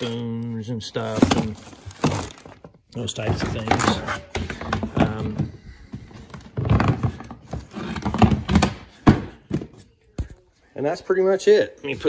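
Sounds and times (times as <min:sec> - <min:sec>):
items clattering and rustling: 0:00.0 - 0:10.5.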